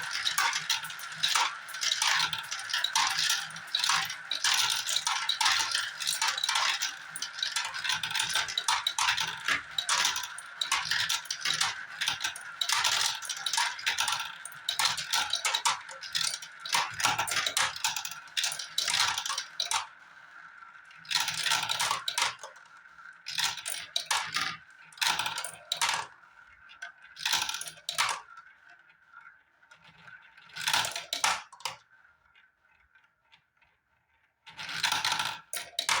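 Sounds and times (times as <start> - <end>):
marbles clattering down track: 0.0 - 26.2, 26.8 - 28.5, 29.8 - 32.0, 34.5 - 36.0.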